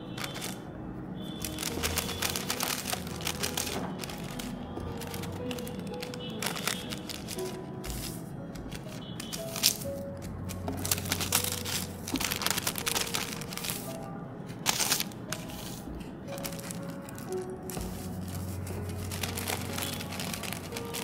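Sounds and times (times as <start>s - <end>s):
paper crinkling and rustling: 0.0s - 0.7s, 1.3s - 21.0s
soft background music: 0.0s - 21.0s.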